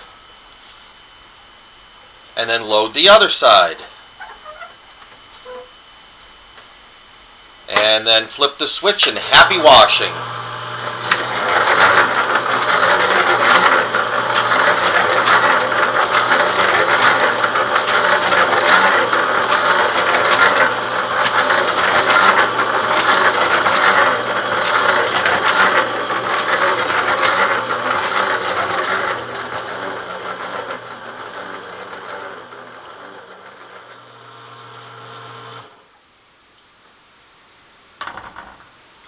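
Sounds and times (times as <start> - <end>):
washing machine humming and rattling: 2.4 - 5.7, 7.6 - 36.0.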